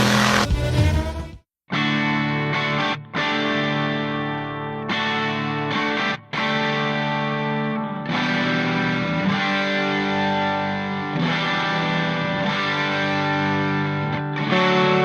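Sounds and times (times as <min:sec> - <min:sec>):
distorted electric guitar chords: 0:00.0 - 0:15.0.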